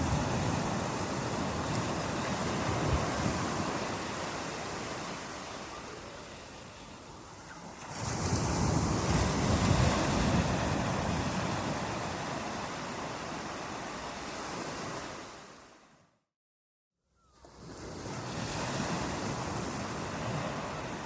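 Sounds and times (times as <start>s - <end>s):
ocean wave breaking on shore: 0.0s - 15.8s, 17.4s - 21.0s.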